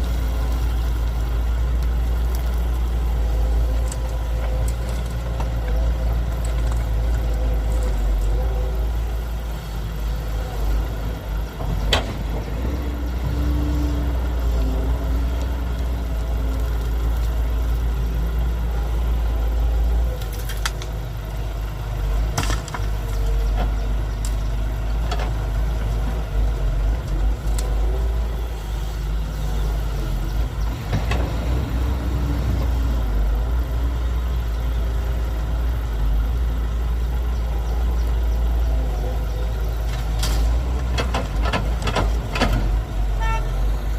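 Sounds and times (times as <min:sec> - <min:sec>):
heavy diesel engines rumbling: 0:00.0 - 0:43.9.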